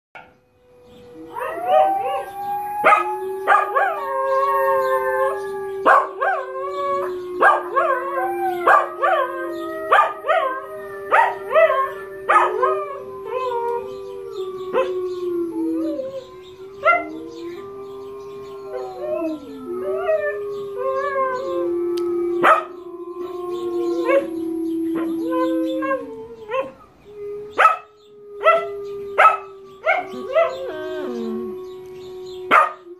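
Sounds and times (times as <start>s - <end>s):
dog howling: 0.7s - 32.9s.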